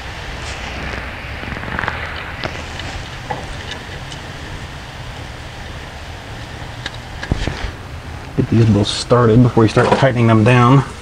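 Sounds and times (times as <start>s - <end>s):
rushing background noise: 0.0s - 11.0s.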